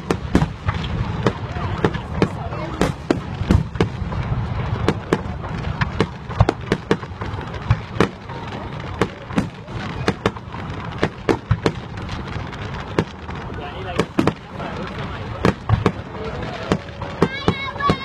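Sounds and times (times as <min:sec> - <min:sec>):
fireworks bursting with sharp bangs: 0:00.0 - 0:18.0
steady low rumble: 0:00.0 - 0:18.0.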